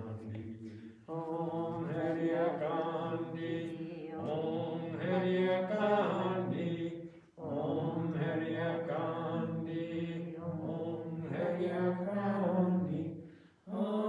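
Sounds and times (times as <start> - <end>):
voices chanting a mantra: 0.0 - 14.0.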